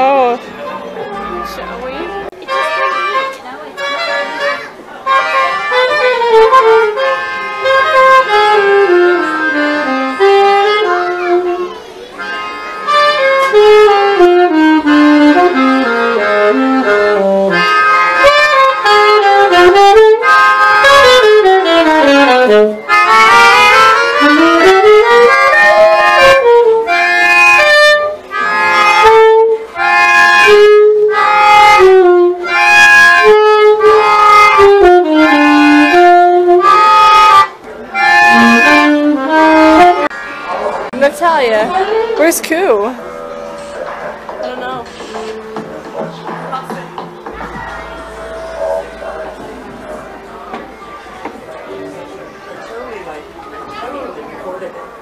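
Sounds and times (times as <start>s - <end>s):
instrumental music: 0.0s - 55.0s.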